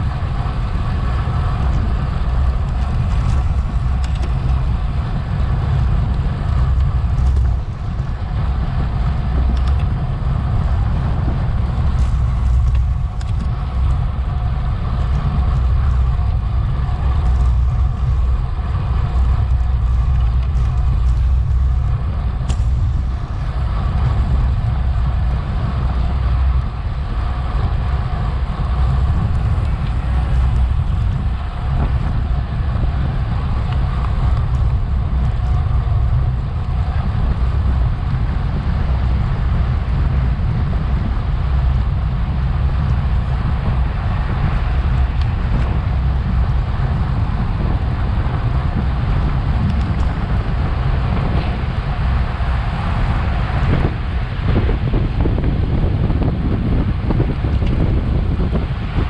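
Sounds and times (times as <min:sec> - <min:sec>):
road and bike noise: 0:00.0 - 0:59.0
wind rushing over microphone: 0:00.0 - 0:59.0.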